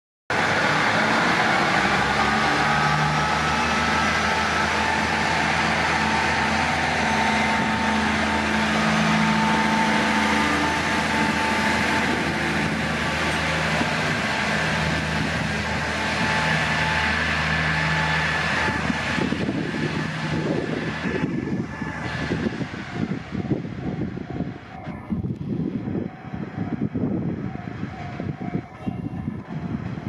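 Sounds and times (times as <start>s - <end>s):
diesel train engines running: 0.3s - 30.0s.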